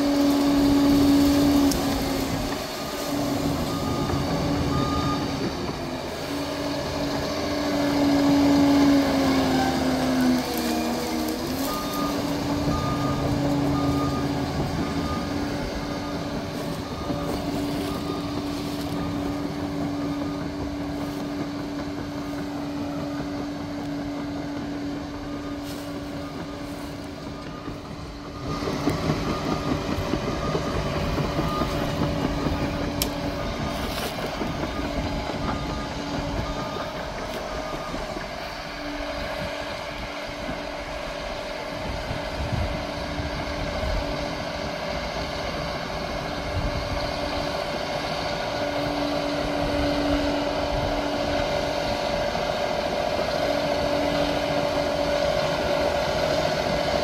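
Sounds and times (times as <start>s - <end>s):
crawler dozer diesel engine: 0.0s - 57.0s.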